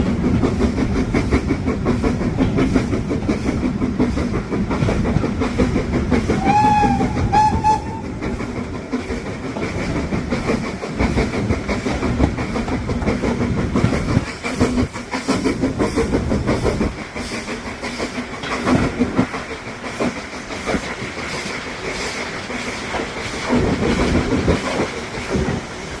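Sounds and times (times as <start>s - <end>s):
train wheels clickety-clack on track: 0.0s - 26.0s.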